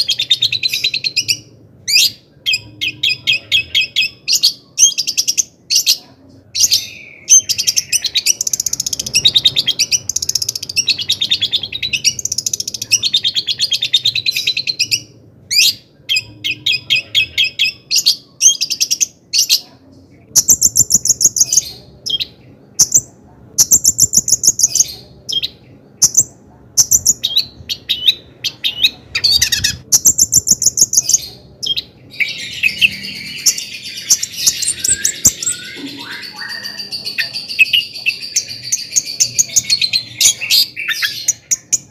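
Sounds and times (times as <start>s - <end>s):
bird singing chattering phrases: 0.0s - 41.9s.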